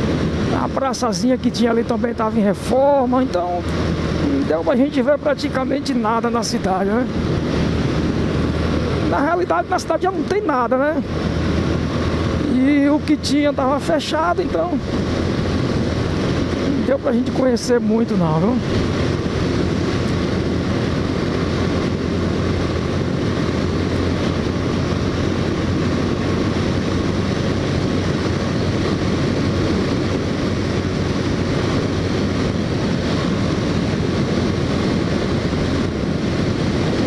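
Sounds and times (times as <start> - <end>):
motorcycle engine cruising: 0.0 - 37.0
wind and road noise: 0.0 - 37.0.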